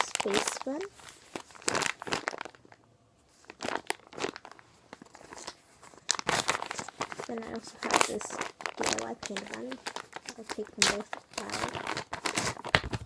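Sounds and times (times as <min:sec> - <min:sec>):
squishy toys crinkling and rustling: 0:00.0 - 0:13.0.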